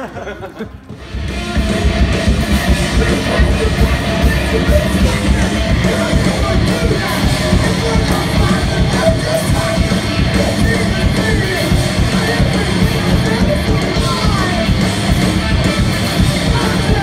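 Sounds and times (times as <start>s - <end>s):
drums: 0.0s - 17.0s
electric guitars: 0.0s - 17.0s
person singing: 1.4s - 17.0s.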